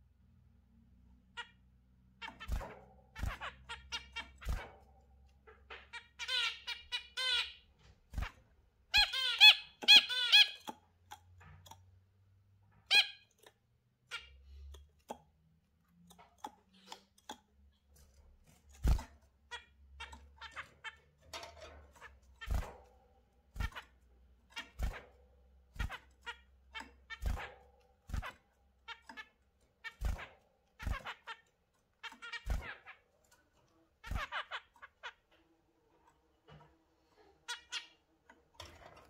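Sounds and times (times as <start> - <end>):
finches and budgerigars chirping: 1.2 - 11.9, 12.8 - 39.0.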